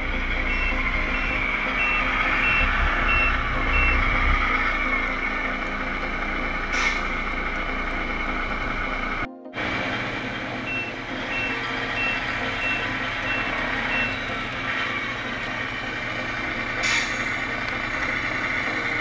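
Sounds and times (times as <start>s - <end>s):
reversing beeper: 0.0s - 15.3s
simulated diesel engine: 0.0s - 19.0s.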